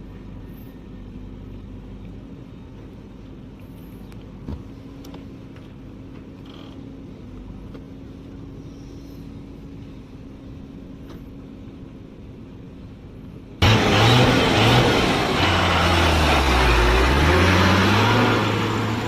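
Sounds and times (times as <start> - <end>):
heavy vehicle engine humming: 0.0 - 19.0.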